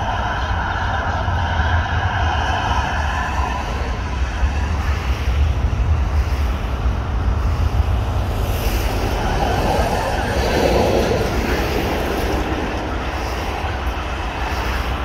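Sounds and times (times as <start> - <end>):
train rumbling past: 0.0 - 15.0
wind buffeting the microphone: 0.0 - 15.0.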